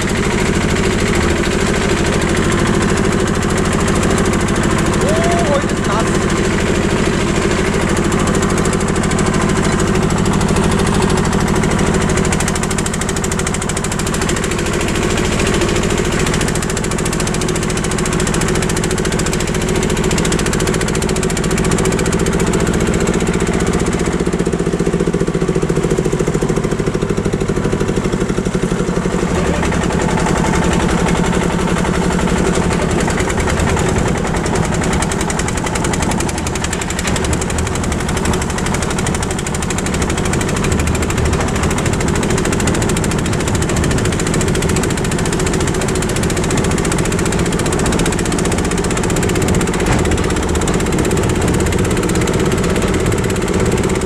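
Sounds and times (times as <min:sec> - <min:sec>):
small tractor engine running: 0:00.0 - 0:54.0.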